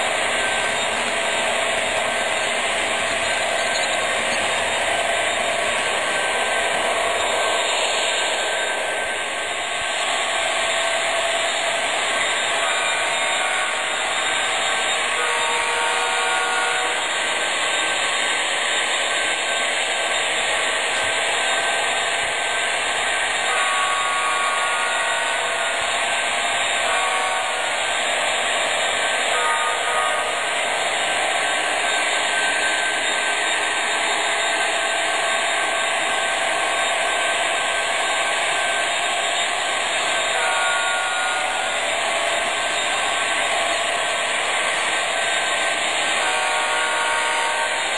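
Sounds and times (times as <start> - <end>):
model train rolling on track: 0.0 - 47.9.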